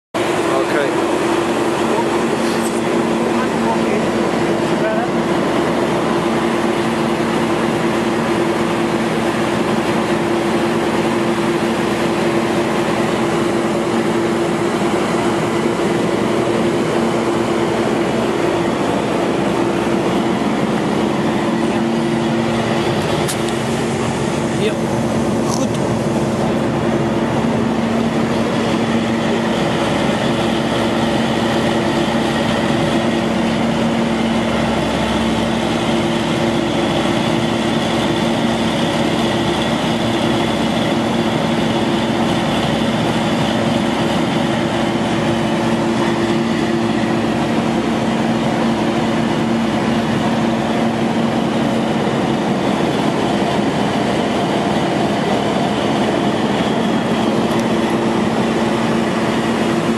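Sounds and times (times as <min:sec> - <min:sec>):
drill rig engine droning: 0:00.2 - 0:59.9.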